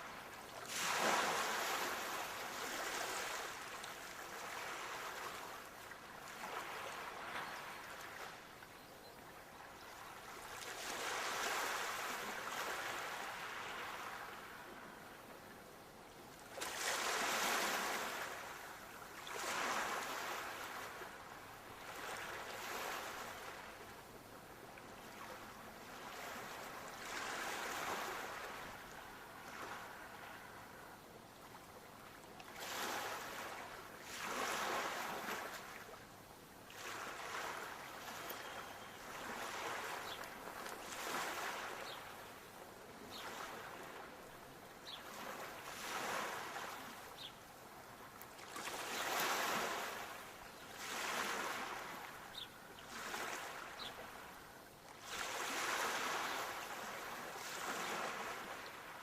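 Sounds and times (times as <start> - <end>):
sea waves breaking on shore: 0.0 - 8.5, 9.9 - 15.1, 16.4 - 24.1, 24.8 - 59.0.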